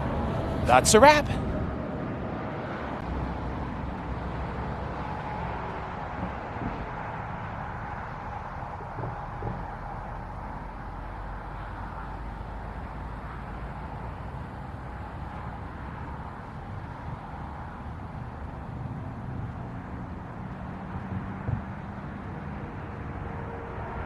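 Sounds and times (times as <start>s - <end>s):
low vehicle rumble: 0.0s - 24.0s.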